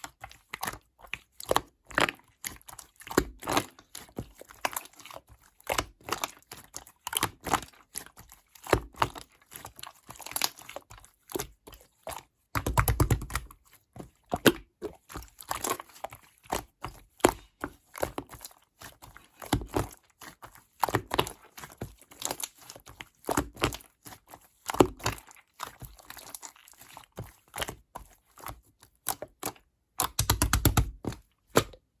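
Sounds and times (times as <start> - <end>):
slime squishing: 0.0 - 32.0.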